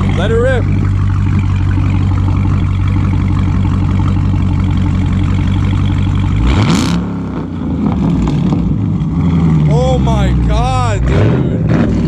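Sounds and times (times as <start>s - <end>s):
car engine idling: 0.0s - 12.0s
engine revving: 0.0s - 12.0s.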